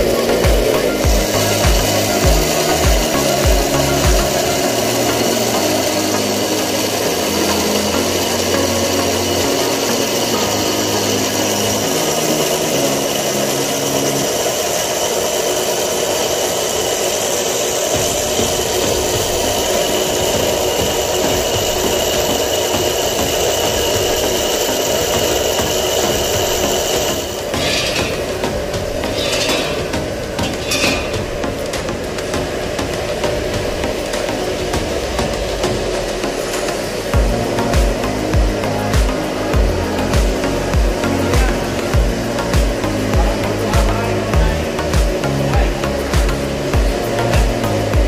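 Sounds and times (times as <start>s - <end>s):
low hum: 0.0s - 48.0s
machine running noise: 0.0s - 48.0s.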